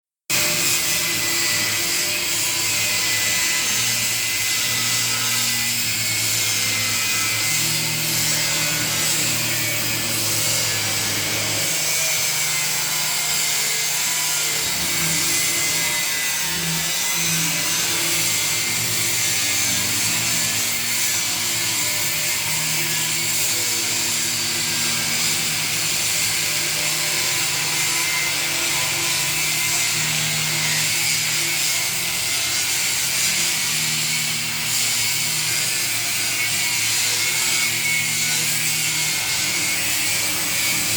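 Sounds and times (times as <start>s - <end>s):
grinder disc cutting steel: 0.3s - 40.9s.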